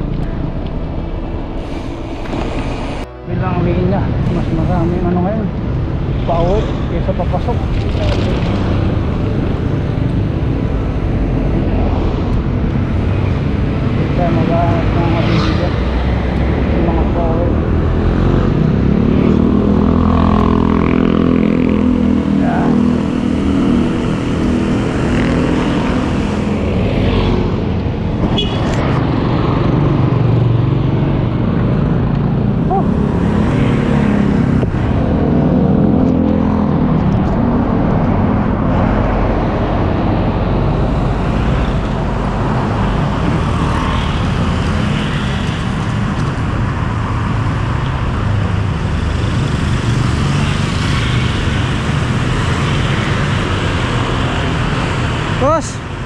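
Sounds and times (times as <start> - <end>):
cars passing: 0.0 - 56.0
motorcycle engines passing: 2.8 - 56.0.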